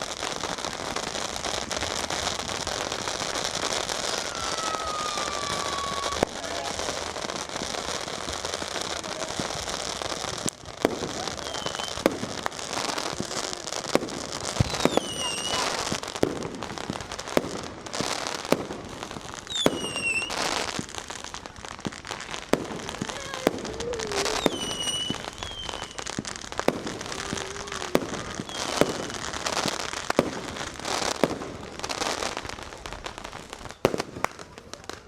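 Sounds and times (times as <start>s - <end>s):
fireworks bangs: 0.0s - 35.0s
fireworks crackling: 0.0s - 35.0s
fireworks whistles gliding down: 0.0s - 35.0s.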